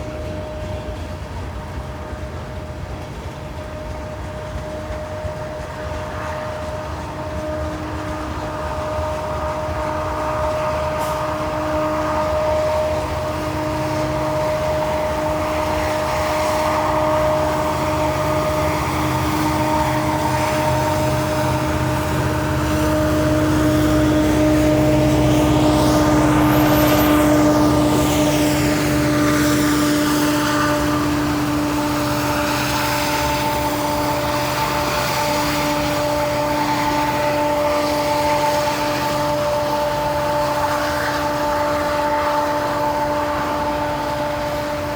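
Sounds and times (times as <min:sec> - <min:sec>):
train passing: 0:00.0 - 0:44.9.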